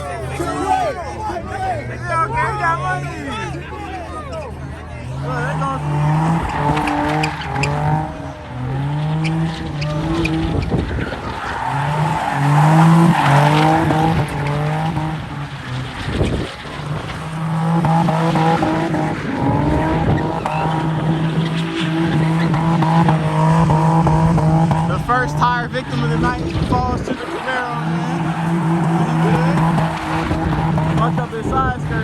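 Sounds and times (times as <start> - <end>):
car engine revving high: 0.0 - 32.0
tires squealing on pavement: 0.0 - 32.0.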